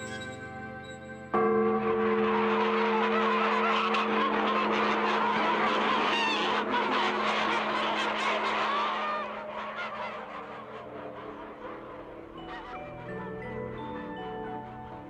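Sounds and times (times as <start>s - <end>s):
flock of waterfowl honking: 1.9s - 15.0s.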